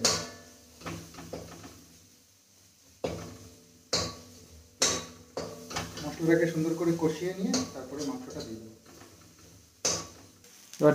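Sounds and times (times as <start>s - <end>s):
spatula scraping pan: 0.0s - 10.7s.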